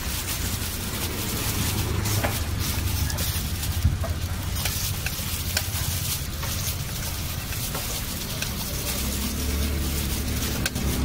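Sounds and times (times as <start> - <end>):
wet squishing of mashed potato: 0.0 - 11.0.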